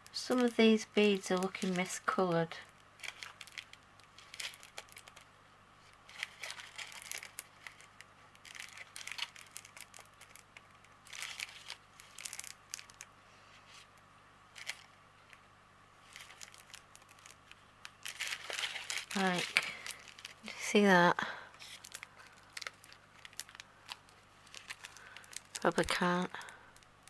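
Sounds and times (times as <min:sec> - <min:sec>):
plastic bags crinkling: 0:00.1 - 0:13.1, 0:13.7 - 0:15.4, 0:16.0 - 0:27.0.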